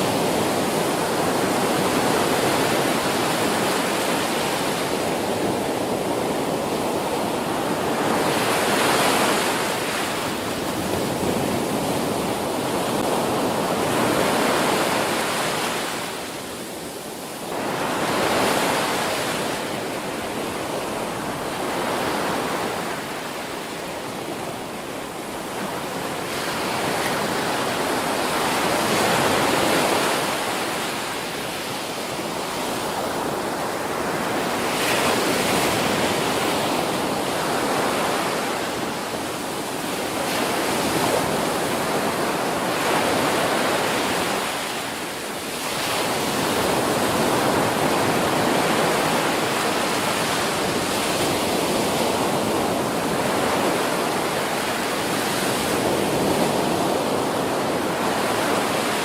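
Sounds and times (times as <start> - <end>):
ocean waves crashing: 0.0 - 59.0.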